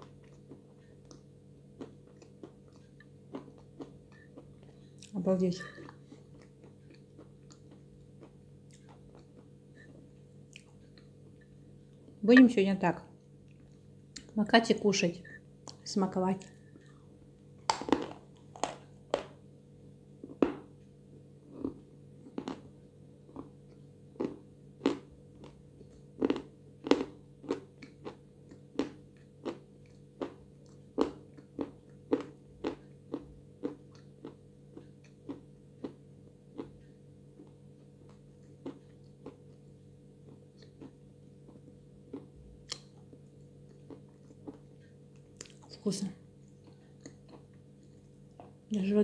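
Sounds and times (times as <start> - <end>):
crunchy chewing: 0.0 - 12.2, 16.4 - 19.4, 21.4 - 48.6.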